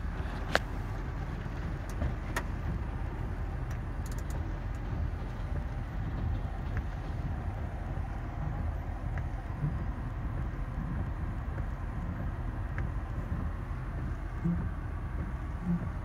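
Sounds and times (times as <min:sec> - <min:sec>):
car wash spray and machinery rumble: 0:00.0 - 0:16.0
light ticks: 0:00.2 - 0:16.0.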